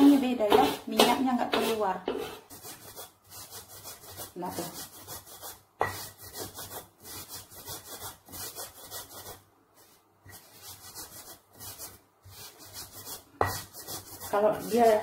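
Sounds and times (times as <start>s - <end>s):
stone pestle grinding coconut: 0.0s - 9.3s, 10.3s - 15.0s.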